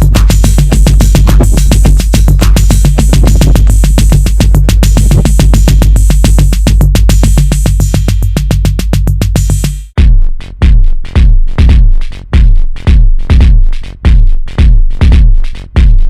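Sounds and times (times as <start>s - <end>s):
fast drum-machine pattern: 0.0s - 16.0s
heavy bass hits: 0.0s - 16.0s
steady bass tone: 0.0s - 16.0s.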